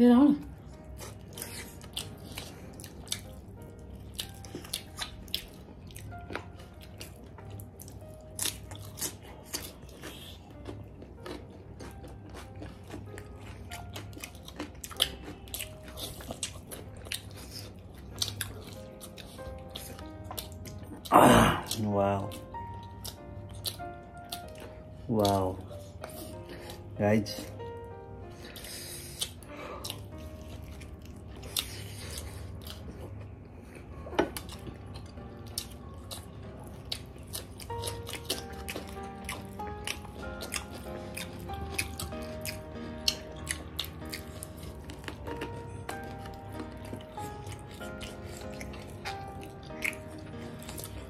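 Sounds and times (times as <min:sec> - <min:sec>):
crunchy chewing: 0:00.5 - 0:51.0.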